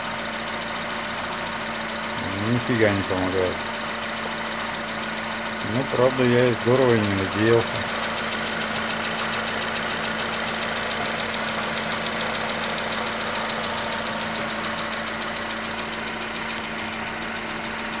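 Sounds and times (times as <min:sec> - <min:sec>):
engine idling with knocking tick: 0:00.0 - 0:18.0.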